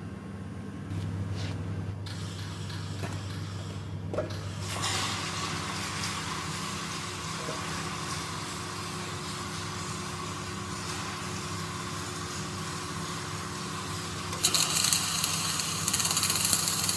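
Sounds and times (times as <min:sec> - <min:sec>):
low machine hum: 0:00.0 - 0:16.9.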